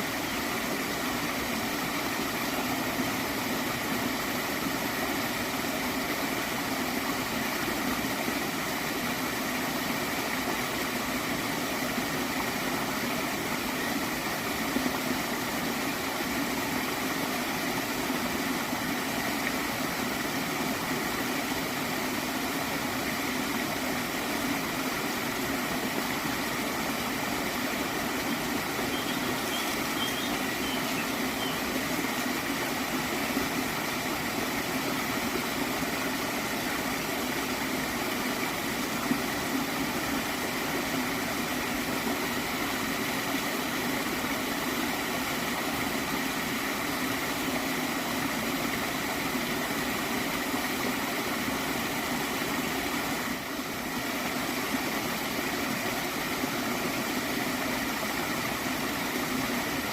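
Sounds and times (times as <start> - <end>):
shallow stream gurgling: 0.0 - 59.9.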